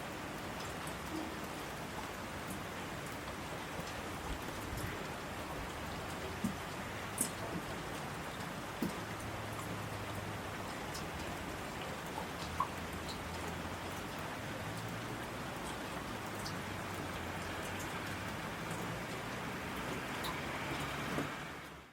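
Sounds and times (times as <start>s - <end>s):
steady rain hiss: 0.0s - 21.9s.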